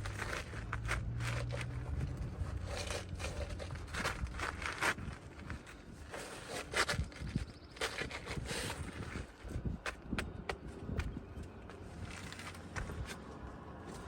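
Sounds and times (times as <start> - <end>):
scraping and crinkling of roof shingles: 0.0 - 14.0.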